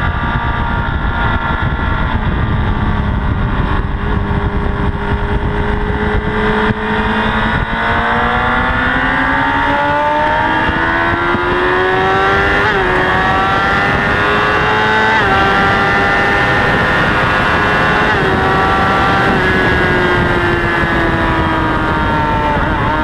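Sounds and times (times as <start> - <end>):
heavy wind rush: 0.0 - 23.0
motorcycle engine accelerating: 0.0 - 23.0.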